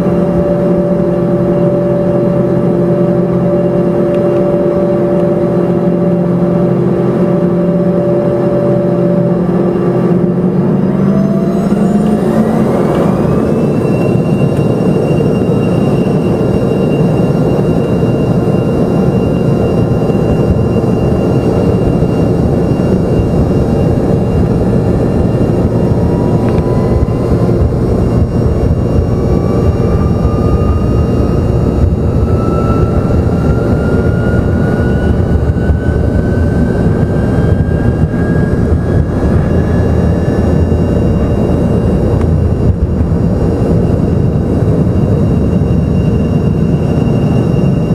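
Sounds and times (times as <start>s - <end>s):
jet engine rumble with whine: 0.0s - 47.9s
rising engine whine: 0.0s - 47.9s.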